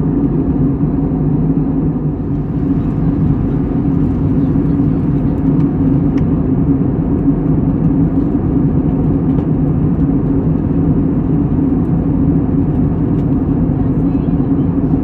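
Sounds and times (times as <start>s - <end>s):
vehicle cabin rumbling drone: 0.0s - 15.0s.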